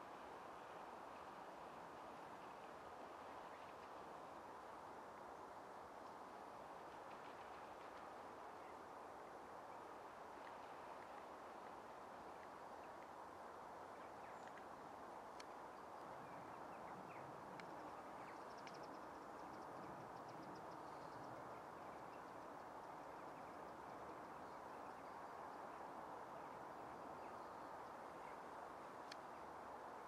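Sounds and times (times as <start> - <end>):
low outdoor hiss: 0.0 - 30.0.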